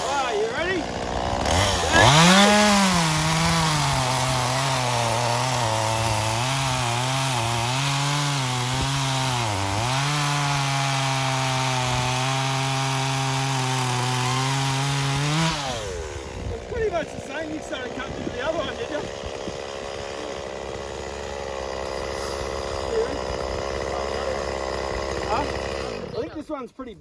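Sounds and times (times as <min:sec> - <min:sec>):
chainsaw cutting wood: 0:00.0 - 0:26.4.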